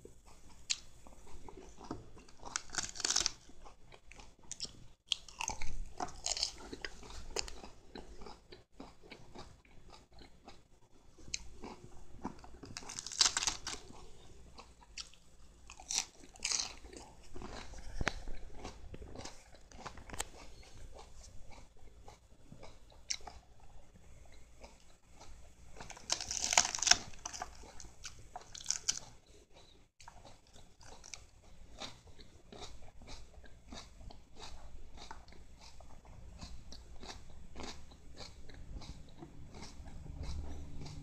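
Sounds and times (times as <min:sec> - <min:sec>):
cat chewing lettuce: 0:00.3 - 0:41.0.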